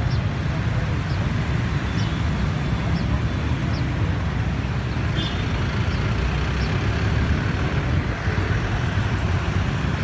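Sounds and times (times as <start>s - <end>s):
city road traffic rumble: 0.0s - 10.0s.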